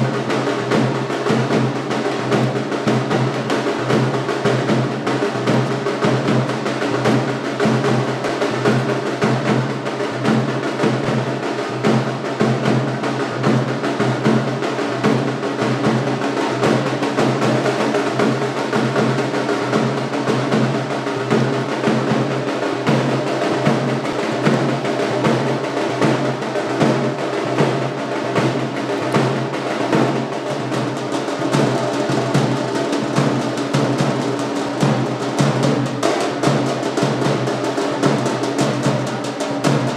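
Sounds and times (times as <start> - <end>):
fast continuous drumming music: 0.0 - 39.9.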